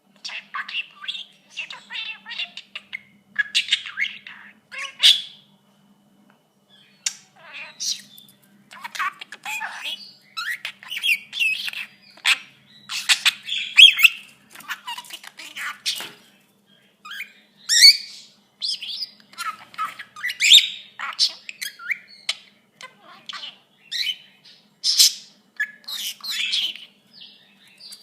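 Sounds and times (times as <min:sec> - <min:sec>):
budgerigar chattering: 0:00.2 - 0:05.4, 0:07.1 - 0:16.2, 0:17.1 - 0:27.0
budgerigar mimicking talk: 0:00.2 - 0:05.4, 0:07.1 - 0:16.1, 0:17.1 - 0:27.0.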